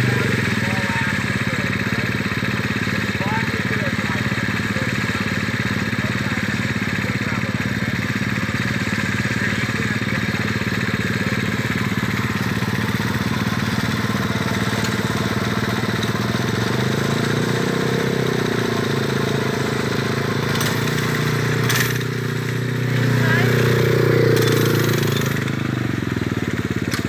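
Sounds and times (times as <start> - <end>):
mini bike engines running: 0.0 - 27.0.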